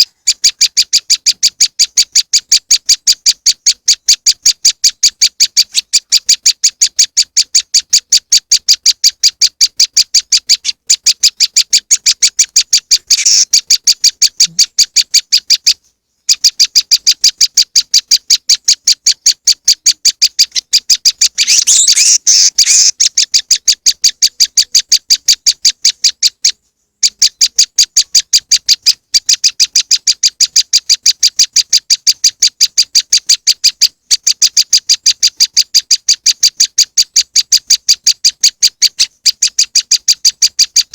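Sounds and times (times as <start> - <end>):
bird chattering: 0.0 - 40.9.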